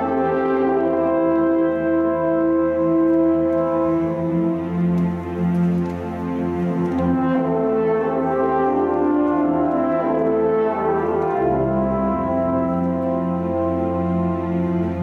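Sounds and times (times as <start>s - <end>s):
chamber orchestra playing held notes: 0.0s - 15.0s.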